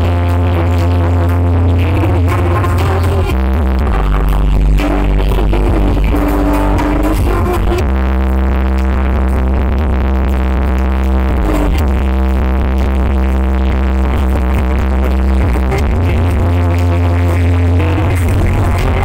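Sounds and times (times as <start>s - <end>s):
electronic dance music with heavy bass: 0.0s - 19.0s.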